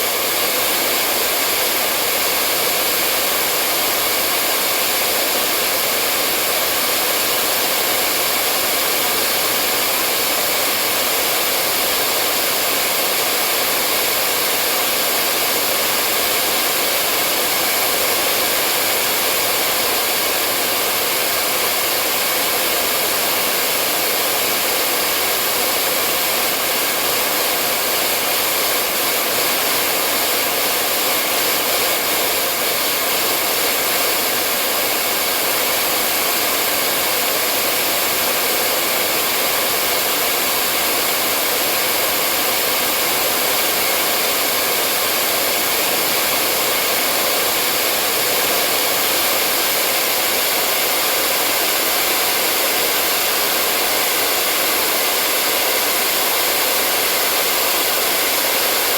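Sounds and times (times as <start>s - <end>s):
hair dryer blowing: 0.0s - 58.9s.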